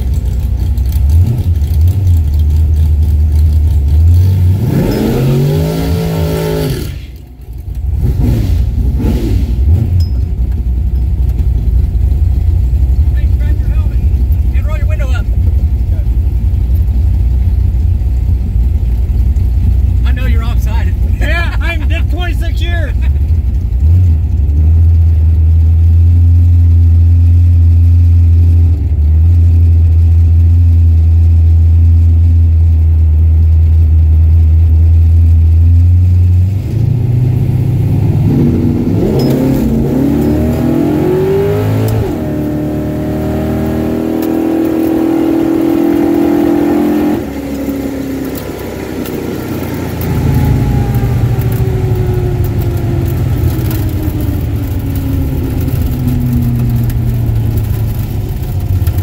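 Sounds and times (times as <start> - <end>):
car engine revving: 0.0 - 32.2, 35.0 - 59.0.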